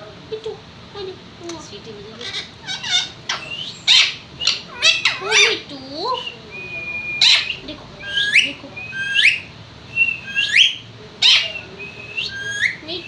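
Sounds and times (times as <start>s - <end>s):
parrot squawks: 2.1s - 13.0s
parrot whistling: 2.1s - 13.0s.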